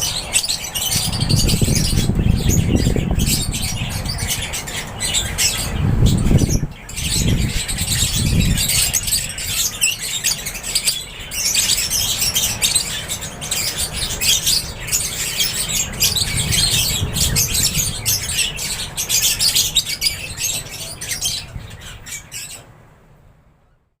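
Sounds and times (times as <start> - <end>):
lovebirds chirping and squawking: 0.0 - 22.7.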